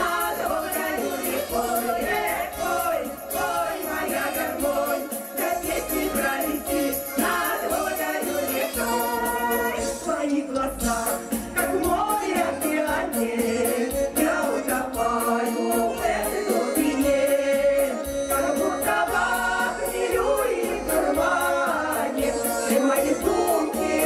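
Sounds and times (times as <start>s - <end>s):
instrumental backing track: 0.0s - 24.0s
women singing in harmony: 0.0s - 24.0s.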